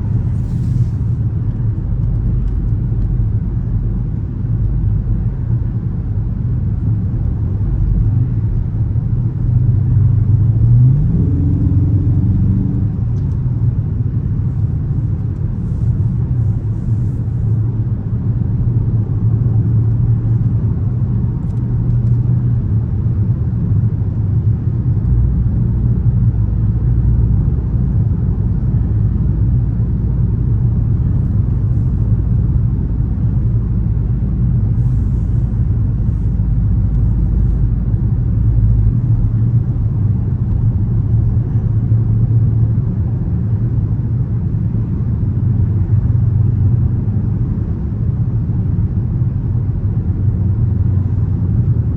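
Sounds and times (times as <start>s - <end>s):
car engine droning: 0.0s - 51.9s
extra low rumble: 0.0s - 51.9s
road rumble: 0.0s - 51.9s.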